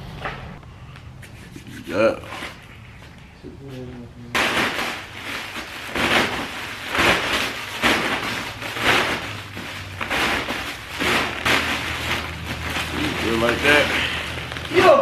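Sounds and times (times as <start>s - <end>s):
plastic bags rustling: 1.8s - 15.0s.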